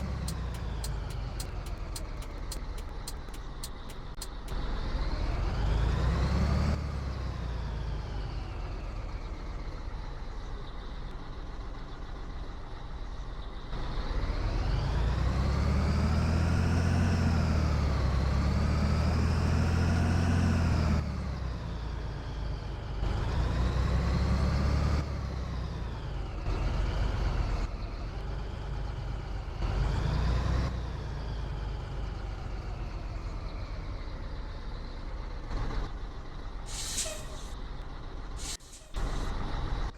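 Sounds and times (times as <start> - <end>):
diesel truck engine revving: 0.0 - 9.6, 13.7 - 39.9.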